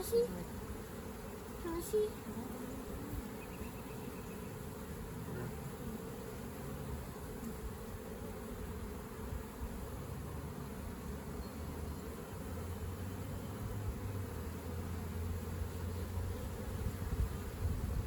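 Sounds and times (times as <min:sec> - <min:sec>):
honey bees buzzing: 0:00.0 - 0:18.0.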